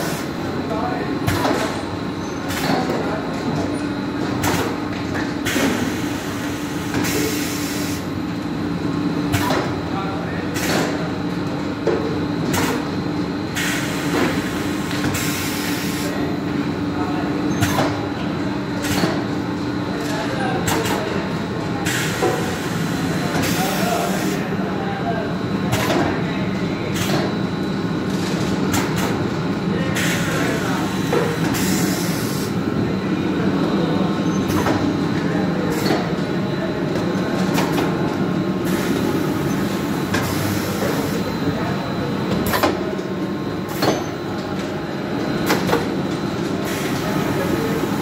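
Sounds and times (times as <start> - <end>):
machinery humming: 0.0 - 48.0.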